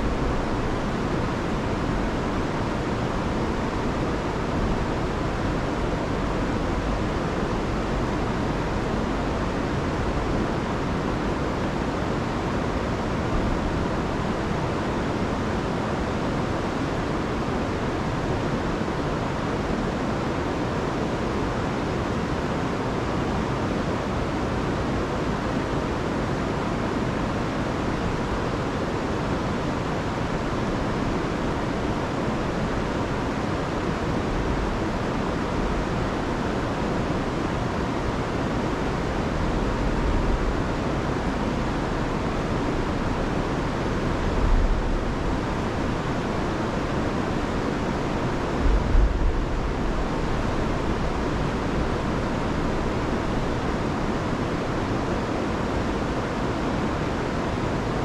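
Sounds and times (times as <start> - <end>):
river and waterfalls rushing: 0.0 - 58.0.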